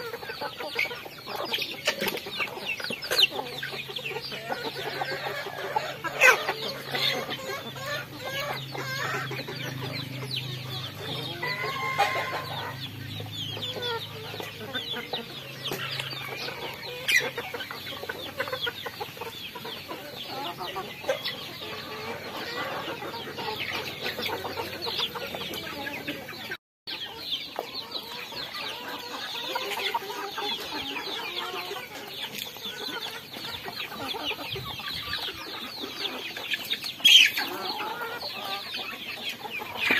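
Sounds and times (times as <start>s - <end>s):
chickens clucking and cheeping: 0.0s - 39.9s.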